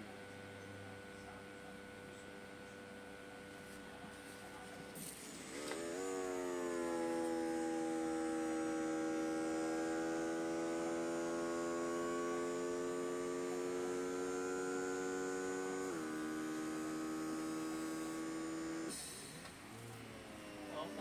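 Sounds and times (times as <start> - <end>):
small air pump humming: 0.0 - 21.0.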